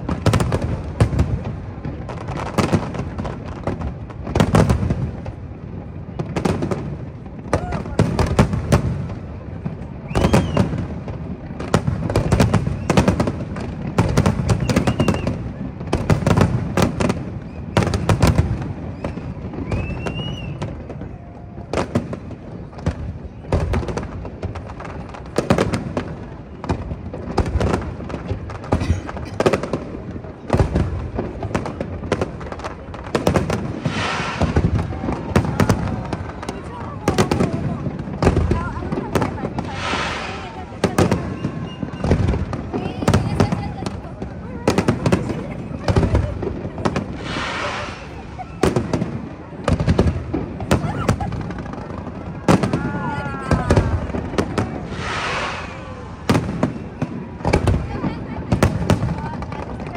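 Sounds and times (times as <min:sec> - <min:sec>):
fireworks booming: 0:00.0 - 0:59.9.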